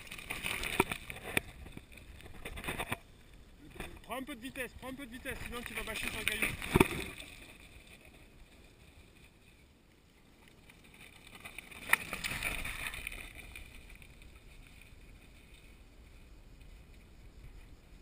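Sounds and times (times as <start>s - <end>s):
bike tyres crunching on stones: 0.0s - 18.0s.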